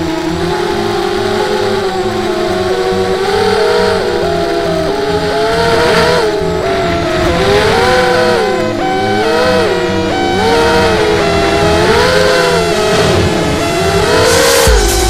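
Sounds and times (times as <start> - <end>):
background music with steady beat: 0.0 - 15.0
quadcopter motors whining: 0.0 - 15.0.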